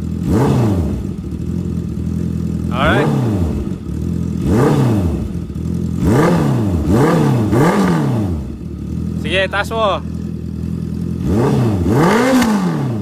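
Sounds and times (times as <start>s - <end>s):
motorcycle engine throttle blips: 0.0s - 13.0s.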